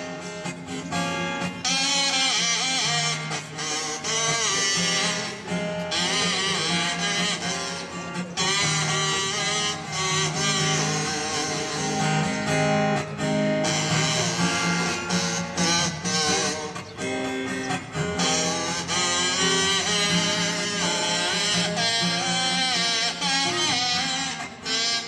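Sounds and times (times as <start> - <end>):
guitar strummed and picked: 0.0 - 25.0.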